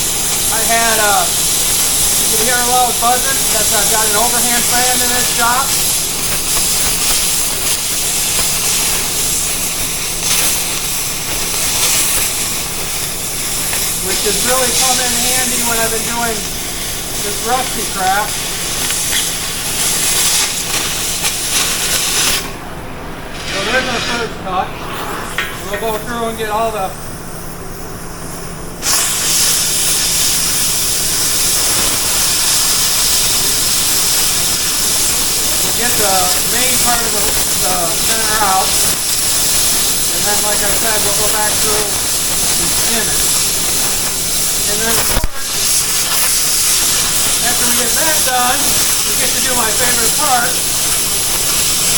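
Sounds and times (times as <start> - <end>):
cutting torch hissing: 0.0 - 51.9
shop fan buzzing: 0.0 - 51.9.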